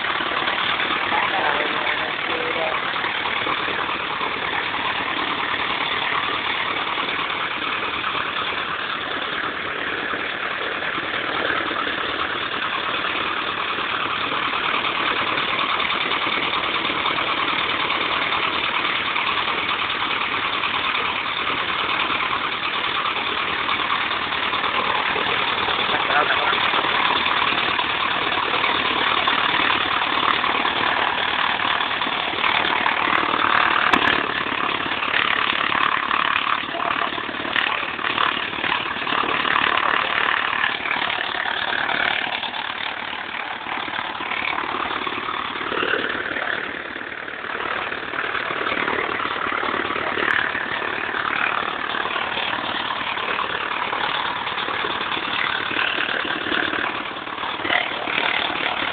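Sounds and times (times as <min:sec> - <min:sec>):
aircraft piston engine running: 0:00.0 - 0:58.9.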